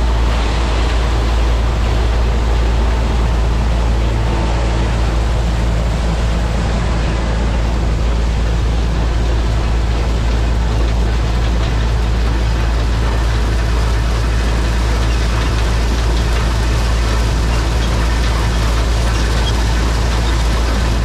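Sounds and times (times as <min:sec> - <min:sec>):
combine diesel engine droning: 0:00.0 - 0:21.0.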